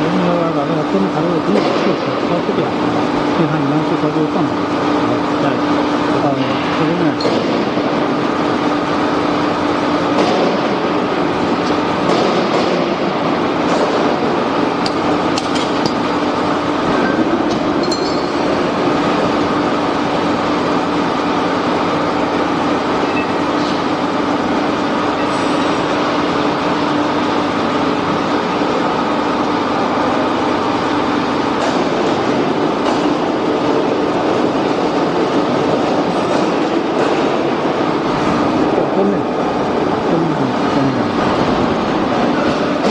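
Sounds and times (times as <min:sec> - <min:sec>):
machinery humming: 0:00.0 - 0:42.9.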